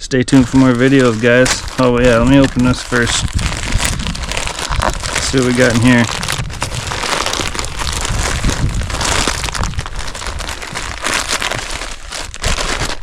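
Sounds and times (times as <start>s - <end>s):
packaging torn and crinkling: 0.3s - 13.0s.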